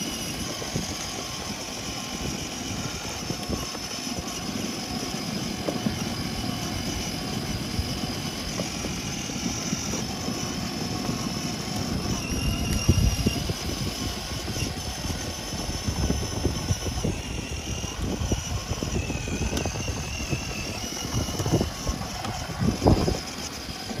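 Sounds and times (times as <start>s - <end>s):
faint motor whine: 0.0s - 24.0s
plastic wheels rumbling on asphalt: 0.0s - 24.0s.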